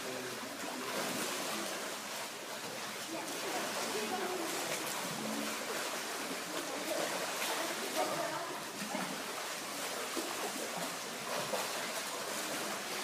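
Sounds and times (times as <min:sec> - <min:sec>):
faint voices: 0:00.0 - 0:11.0
water sloshing: 0:00.0 - 0:13.0.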